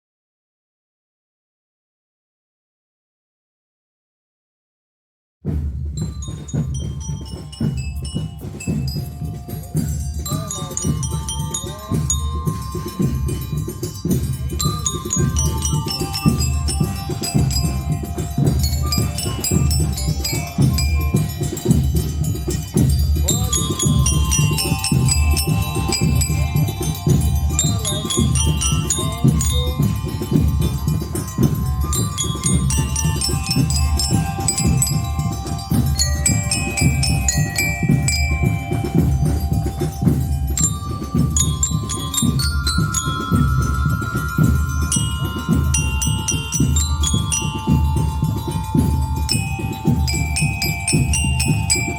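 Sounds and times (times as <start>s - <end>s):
steady drumbeat: 5.4s - 51.9s
bell-like percussion notes: 5.5s - 51.9s
heavy low beat: 5.5s - 51.9s
band playing instrumental music: 6.0s - 51.9s.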